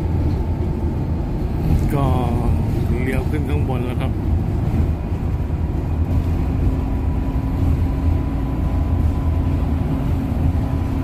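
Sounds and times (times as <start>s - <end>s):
bus engine and tyre rumble: 0.0s - 11.0s.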